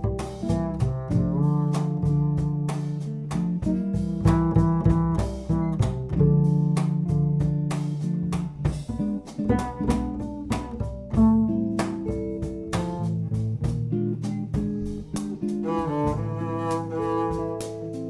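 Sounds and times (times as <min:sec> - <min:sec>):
double bass: 0:00.0 - 0:18.0
drums: 0:00.0 - 0:18.0
guitar: 0:00.0 - 0:18.0.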